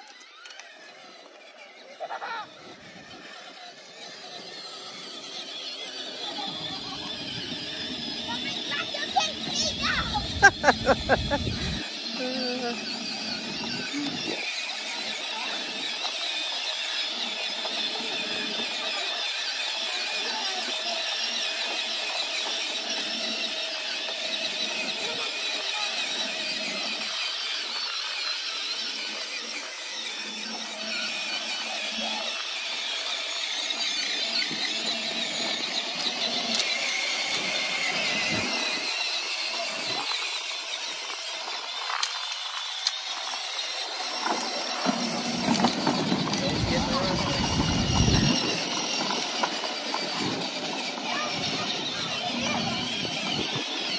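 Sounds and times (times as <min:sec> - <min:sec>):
electric toy motors whining: 0:00.0 - 0:53.9.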